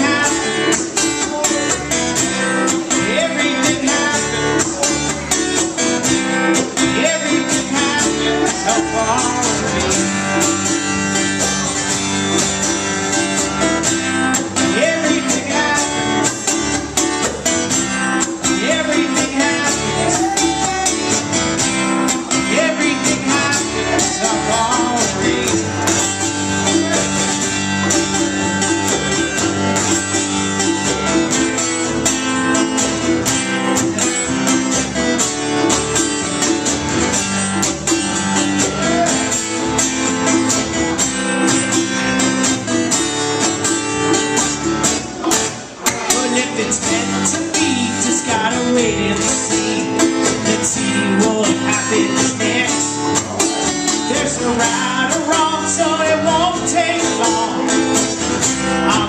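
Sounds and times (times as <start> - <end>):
acoustic guitar strumming: 0.0 - 59.0
double bass: 0.0 - 59.0
drums: 0.0 - 59.0.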